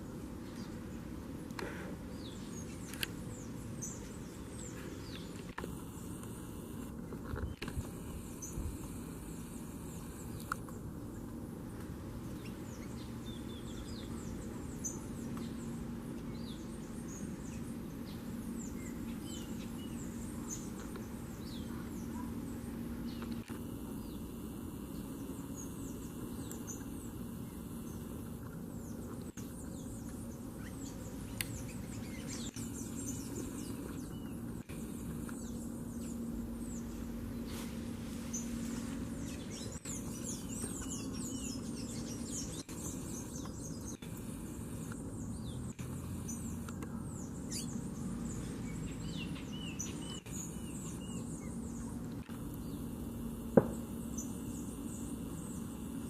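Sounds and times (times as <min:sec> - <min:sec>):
birds chirping: 0:00.0 - 0:56.0
faint hum: 0:00.0 - 0:56.0.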